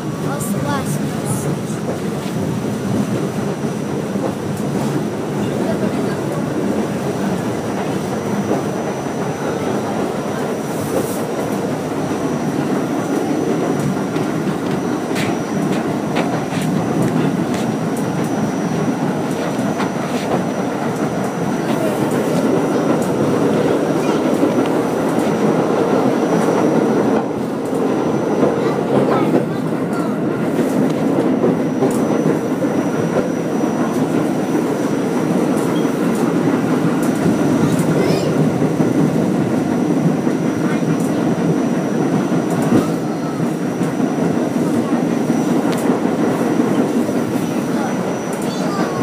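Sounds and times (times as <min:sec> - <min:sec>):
rumble of wheels on rails: 0:00.0 - 0:49.0.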